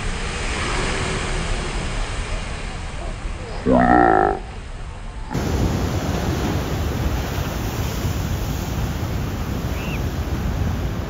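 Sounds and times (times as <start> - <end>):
heavy ocean surf: 0.0 - 11.0.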